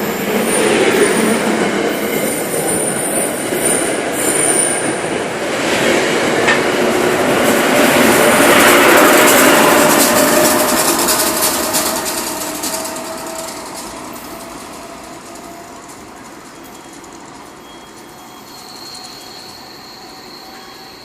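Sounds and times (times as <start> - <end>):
electric train pulling away: 0.0 - 21.0.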